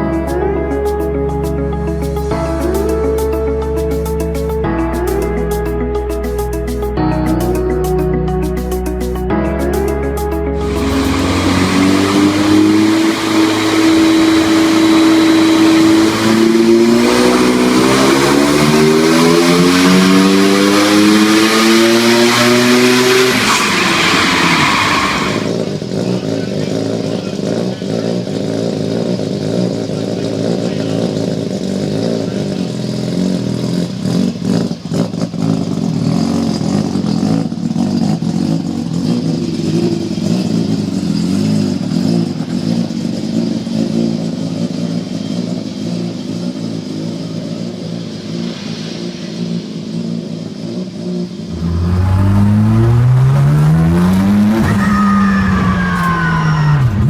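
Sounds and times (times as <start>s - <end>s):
rally car engine revving: 9.9s - 57.0s.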